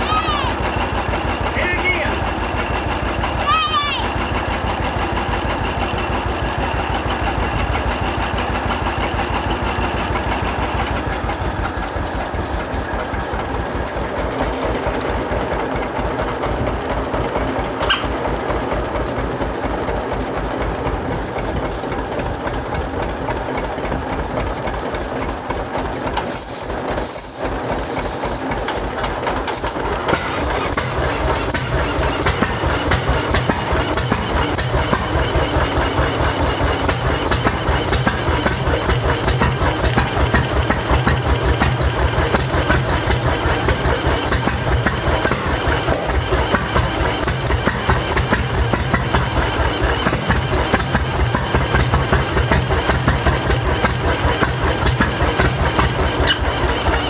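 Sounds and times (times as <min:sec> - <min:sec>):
tractor engine chugging: 0:00.0 - 0:57.0.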